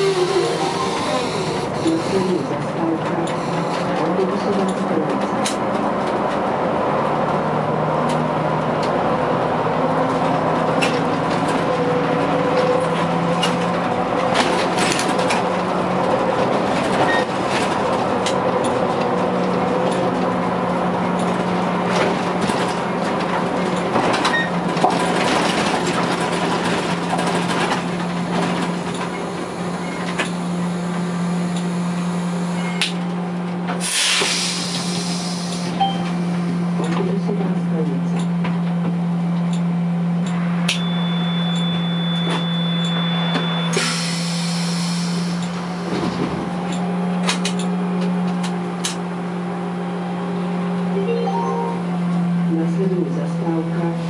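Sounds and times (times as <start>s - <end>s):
trolleybus electric hum: 0.0s - 54.0s.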